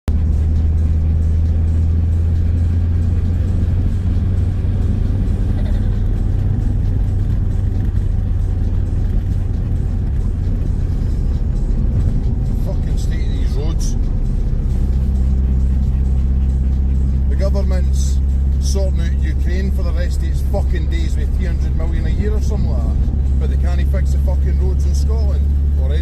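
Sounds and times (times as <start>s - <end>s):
car engine droning: 0.0s - 26.0s
road noise: 0.0s - 26.0s.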